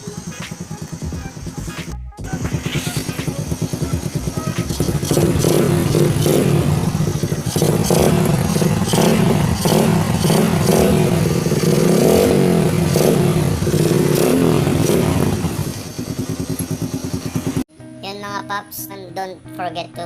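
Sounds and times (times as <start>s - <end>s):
motorcycle engine revving: 0.0s - 17.7s.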